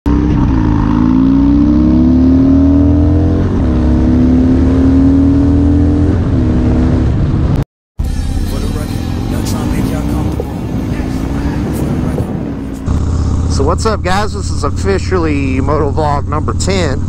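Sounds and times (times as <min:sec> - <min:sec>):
motorcycle accelerating: 0:00.1 - 0:07.6, 0:08.4 - 0:17.0.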